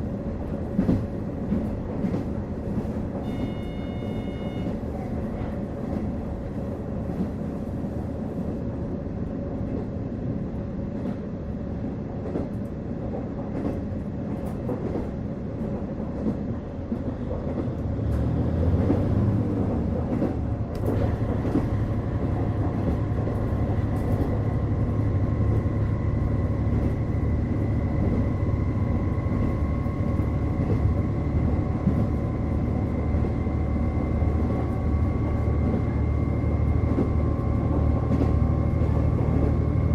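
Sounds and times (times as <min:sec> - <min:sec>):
railcar engine and wheels rumbling: 0:00.0 - 0:39.9.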